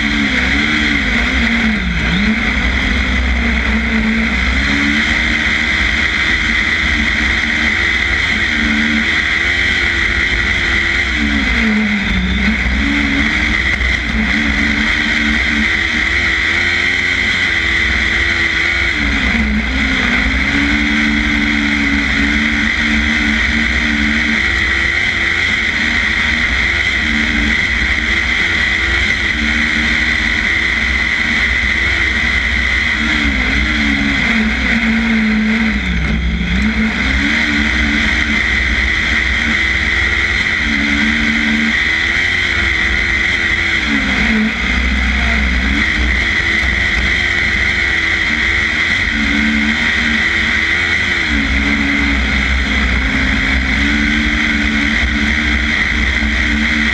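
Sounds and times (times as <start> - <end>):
kart engine running at high revs: 0.0 - 56.9.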